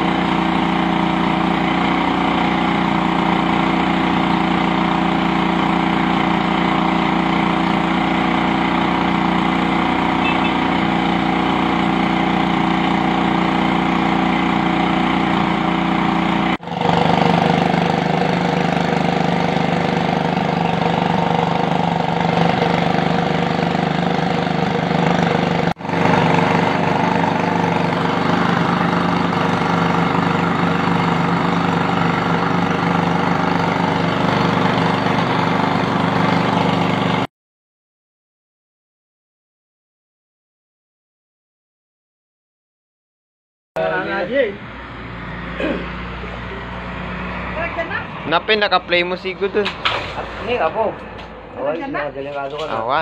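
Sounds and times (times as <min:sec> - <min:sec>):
water pump engine running: 0:00.0 - 0:37.3, 0:43.8 - 0:53.0.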